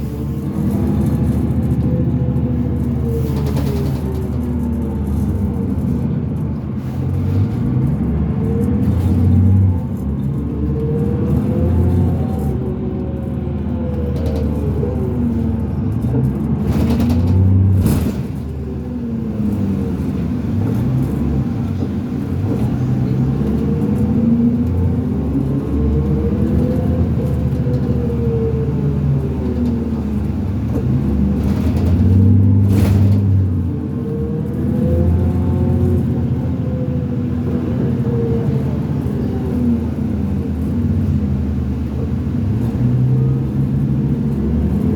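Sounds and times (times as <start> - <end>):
bus diesel engine accelerating: 0.0 - 44.9.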